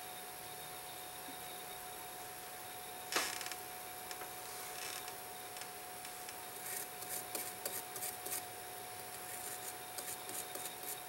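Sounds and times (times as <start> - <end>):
thin steady whine: 0.0 - 11.0.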